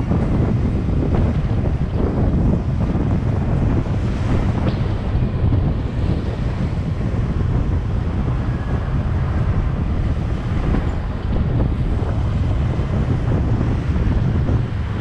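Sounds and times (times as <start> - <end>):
vehicle and road noise: 0.0 - 15.0
wind buffeting microphone: 0.0 - 15.0.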